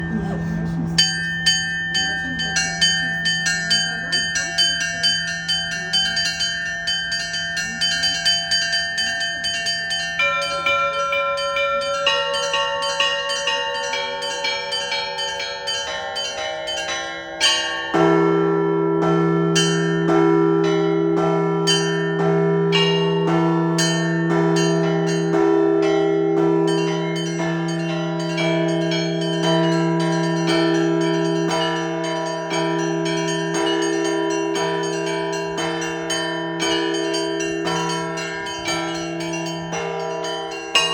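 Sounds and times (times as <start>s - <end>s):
large deep bell tolling: 0.0s - 40.9s
small church bells chiming quickly: 0.0s - 40.9s.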